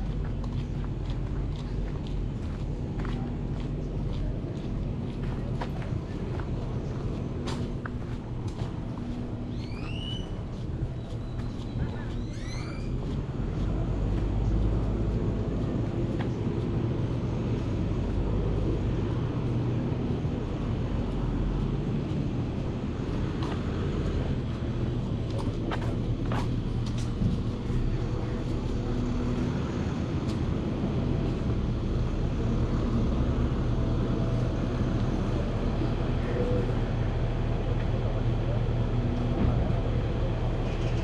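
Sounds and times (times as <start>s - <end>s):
low motor drone: 0.0s - 41.0s
outdoor background noise: 0.0s - 41.0s.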